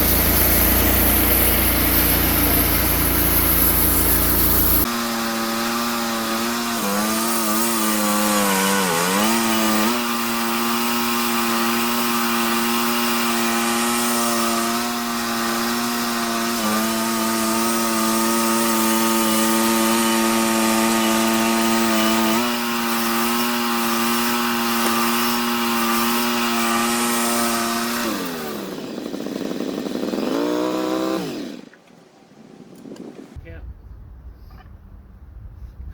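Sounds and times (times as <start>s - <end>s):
band sawmill running: 0.0s - 31.6s.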